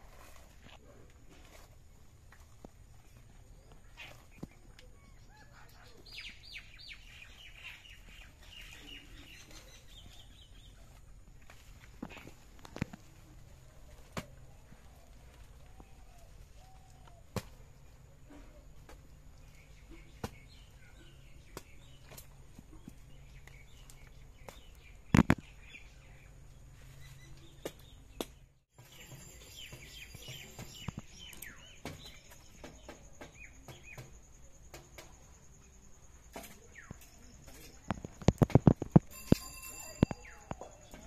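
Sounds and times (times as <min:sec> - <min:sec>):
small birds chirping: 0:00.2 - 0:41.0.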